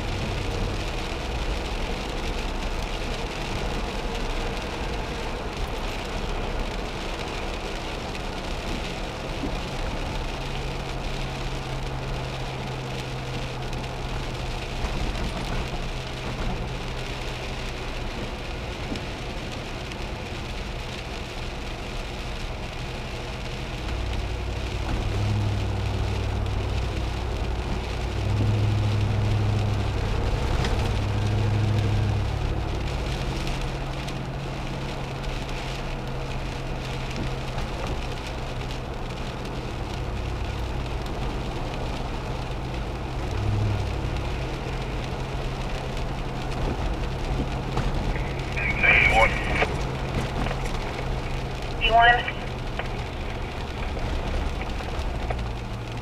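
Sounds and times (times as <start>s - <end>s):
car engine hum: 0.0s - 56.0s
rain hissing on windshield: 0.0s - 56.0s.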